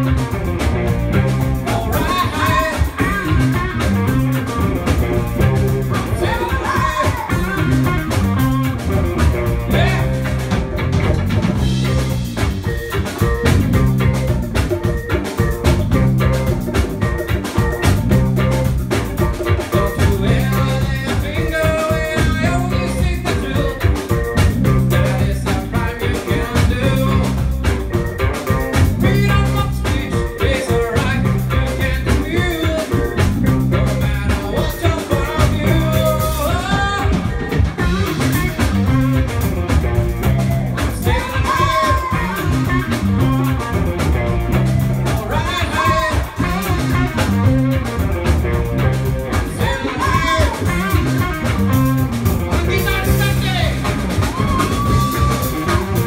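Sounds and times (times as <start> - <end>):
reggae band playing: 0.0 - 56.0.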